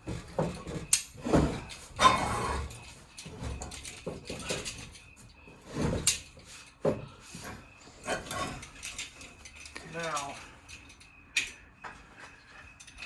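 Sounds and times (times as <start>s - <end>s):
chain rattling against steel bar: 0.0s - 6.9s, 7.9s - 11.6s
metal clanks and knocks: 0.0s - 10.9s.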